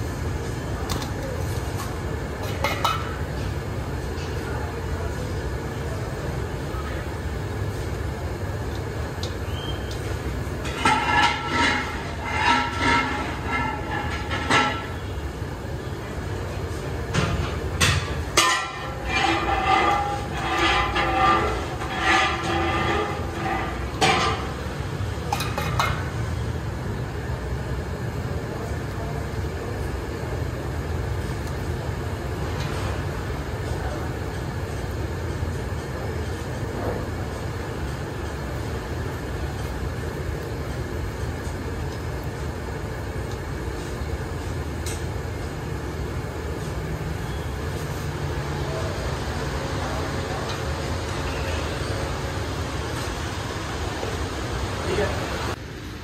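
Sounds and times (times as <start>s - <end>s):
low rumble of road traffic: 0.0s - 56.0s.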